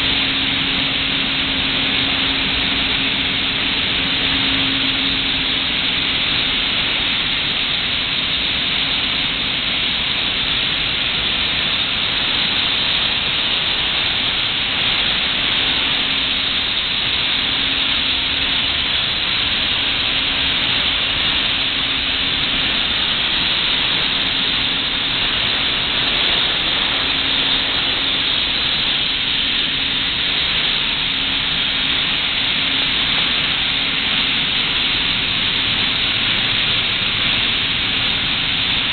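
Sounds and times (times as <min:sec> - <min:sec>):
boiler room machinery hissing: 0:00.0 - 0:38.9.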